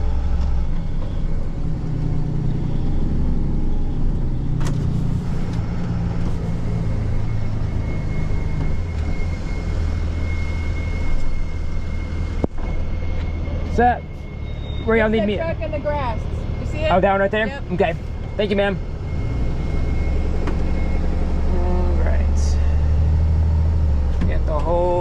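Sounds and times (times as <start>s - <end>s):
truck engine rumble: 0.0s - 25.0s
thin high whine: 2.5s - 23.2s.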